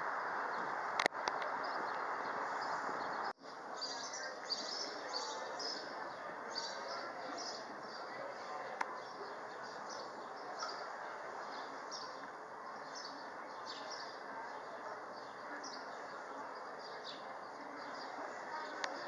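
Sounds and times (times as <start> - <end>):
wind: 0.0 - 19.0
small birds chirping: 1.4 - 19.0.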